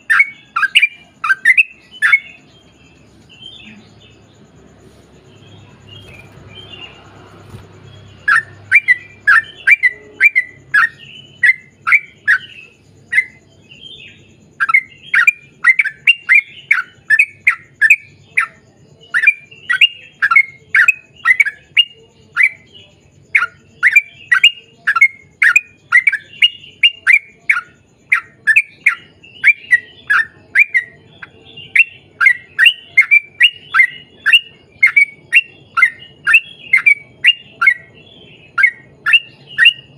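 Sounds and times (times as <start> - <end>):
bird singing rapid sharp notes: 0.0 - 39.9
faint chirps: 0.0 - 39.9.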